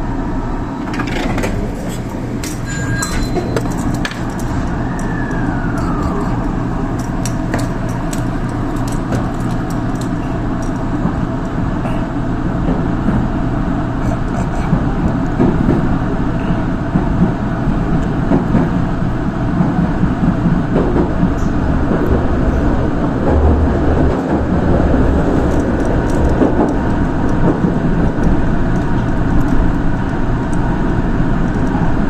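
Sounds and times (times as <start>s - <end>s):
train wheels and motors rumbling: 0.0s - 32.0s.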